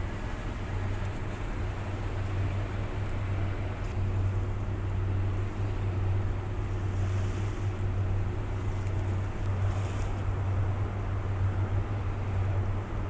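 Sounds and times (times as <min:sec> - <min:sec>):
low engine drone: 0:00.0 - 0:13.0
wind: 0:00.0 - 0:13.0.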